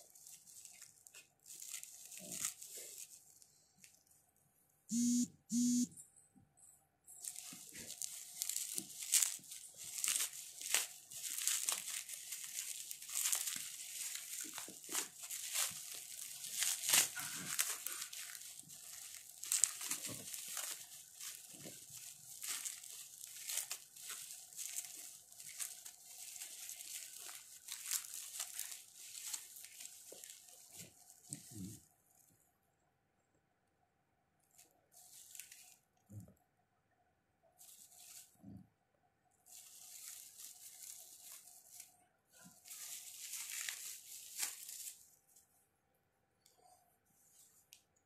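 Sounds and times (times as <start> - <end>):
bubble wrap crinkling: 0.0 - 5.2, 7.1 - 32.4, 34.4 - 36.2, 37.6 - 38.6, 39.4 - 45.6.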